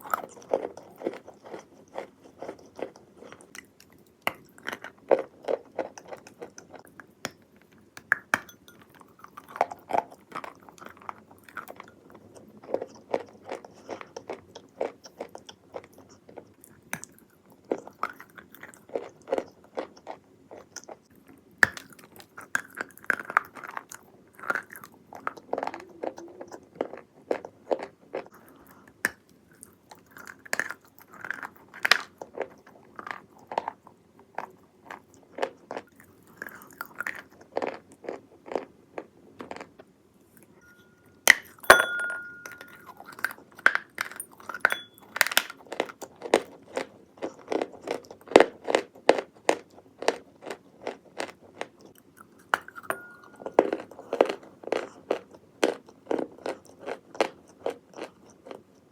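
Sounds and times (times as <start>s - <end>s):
chewing wet clay: 0.0s - 39.8s, 42.2s - 58.9s.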